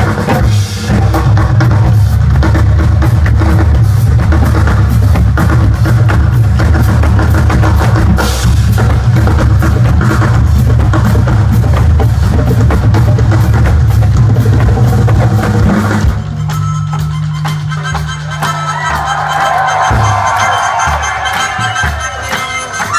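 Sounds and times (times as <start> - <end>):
drum kit playing: 0.0 - 22.9
live band music: 0.0 - 22.9.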